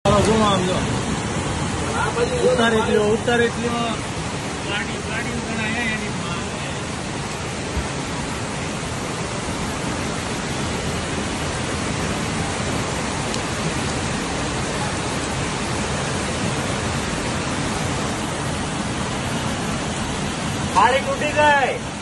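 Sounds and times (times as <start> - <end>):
flood torrent rushing down street: 0.0 - 22.0
heavy rain: 0.0 - 22.0.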